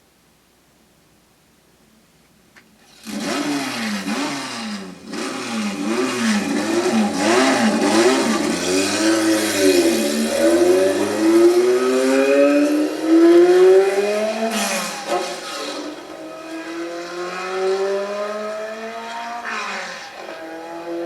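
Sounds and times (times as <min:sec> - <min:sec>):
racing car engines revving: 0:02.9 - 0:21.0.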